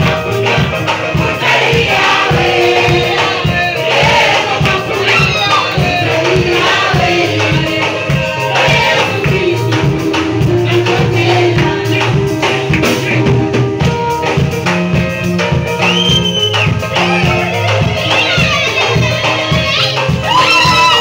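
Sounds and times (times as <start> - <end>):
drums and rattling percussion: 0.0 - 21.0
group singing gospel: 0.0 - 21.0.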